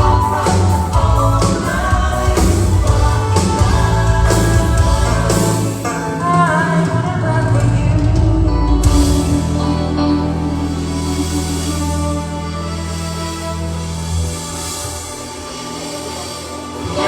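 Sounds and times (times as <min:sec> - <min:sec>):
pop band with singing: 0:00.0 - 0:17.0.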